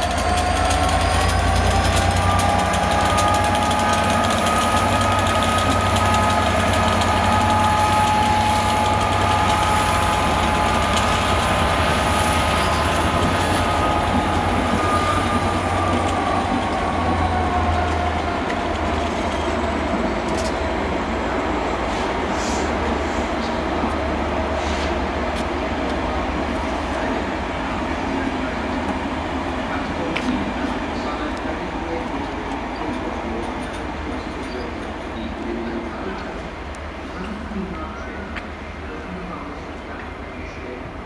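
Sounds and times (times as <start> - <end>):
coaches rolling over rails: 0.0 - 41.0
locomotive engine drone: 0.0 - 41.0
two-tone locomotive whine: 0.0 - 41.0.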